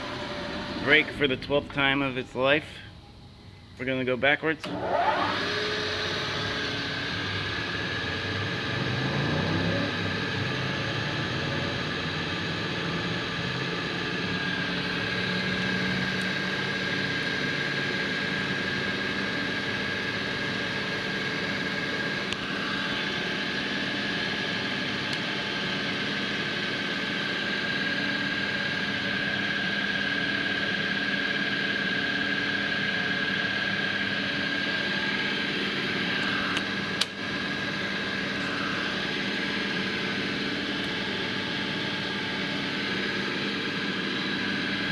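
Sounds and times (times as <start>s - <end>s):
milling machine motor whine: 0.0s - 44.9s.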